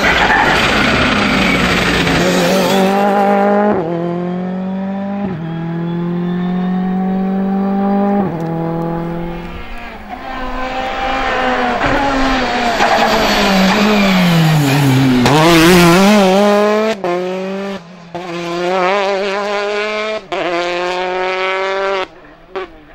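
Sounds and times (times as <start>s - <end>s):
rally car engines revving: 0.0s - 22.9s.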